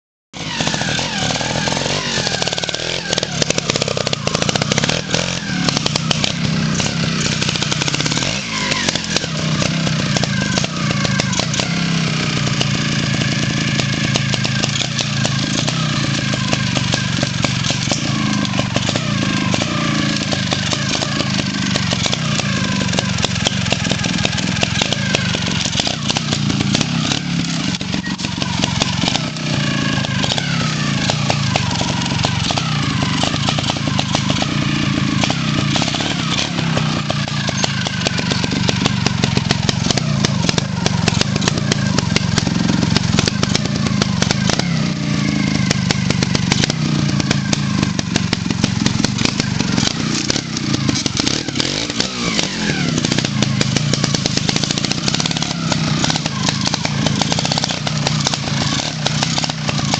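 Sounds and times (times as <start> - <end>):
motorcycle engine with throttle blips: 0.4 - 59.9.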